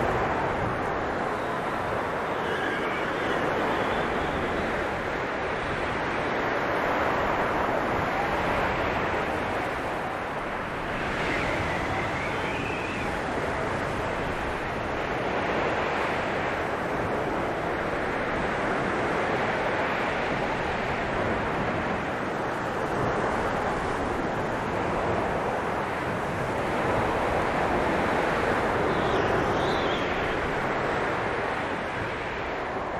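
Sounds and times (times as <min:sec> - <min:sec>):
blizzard wind blowing: 0:00.0 - 0:32.9.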